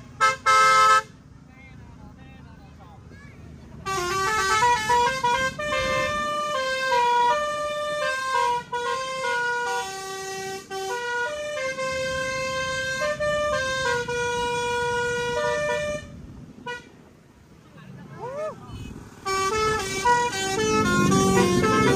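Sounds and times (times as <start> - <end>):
bus air horn playing a tune: 0.0 - 1.3, 3.8 - 17.0, 18.7 - 21.9.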